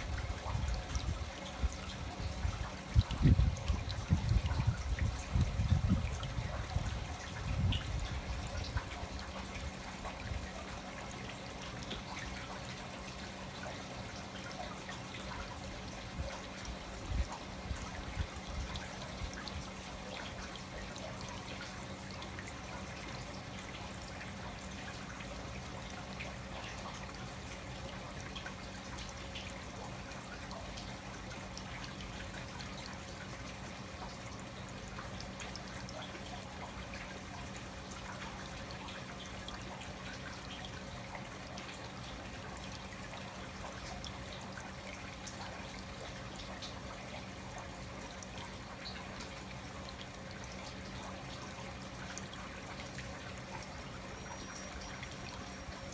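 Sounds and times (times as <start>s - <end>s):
low steady hum: 0.0s - 55.9s
water trickling and dripping: 0.0s - 55.9s.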